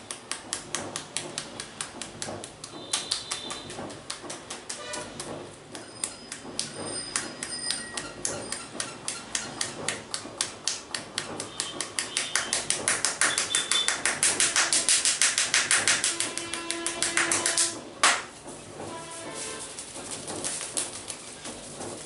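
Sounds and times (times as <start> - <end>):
hands tapping on head: 0.0 - 18.3.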